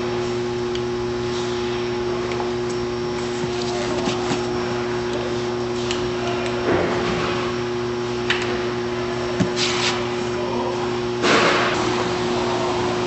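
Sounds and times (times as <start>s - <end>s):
packaging machine humming: 0.0s - 13.0s.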